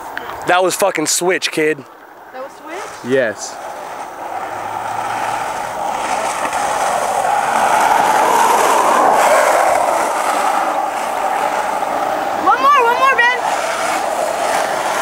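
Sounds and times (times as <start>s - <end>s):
skateboard wheels rolling on asphalt: 0.0s - 15.0s.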